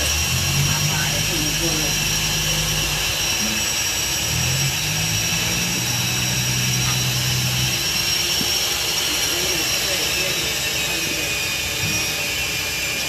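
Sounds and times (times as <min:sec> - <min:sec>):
low hum: 0:00.0 - 0:13.0
machinery droning with high whine: 0:00.0 - 0:13.0.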